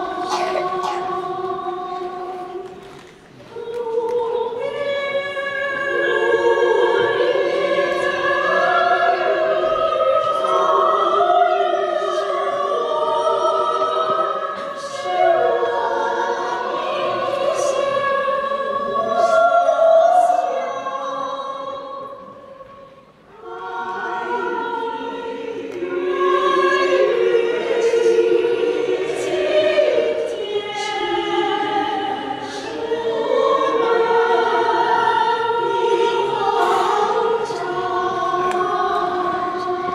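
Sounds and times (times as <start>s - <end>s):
women's choir singing: 0.0s - 39.9s.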